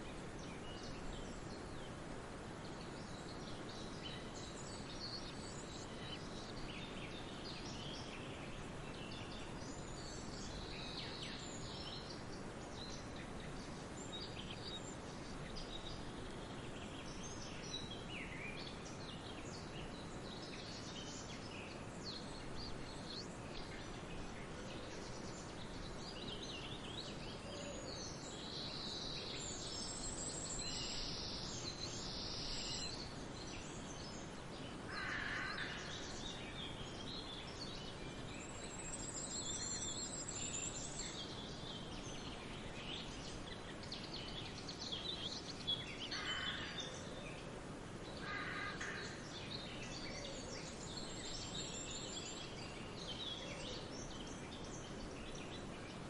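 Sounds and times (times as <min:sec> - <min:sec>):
background hiss: 0:00.0 - 0:56.0
birds chirping and trilling: 0:02.8 - 0:56.0.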